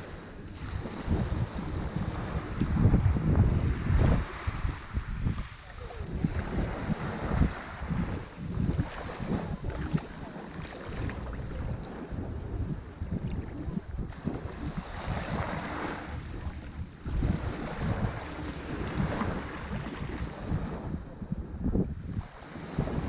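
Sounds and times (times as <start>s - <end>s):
ocean waves breaking on shore: 0.0s - 23.0s
wind rumbling on microphone: 0.0s - 23.0s.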